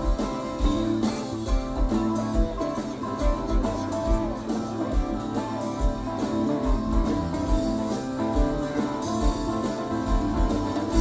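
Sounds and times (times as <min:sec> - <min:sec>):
live rock band: 0:00.0 - 0:11.0.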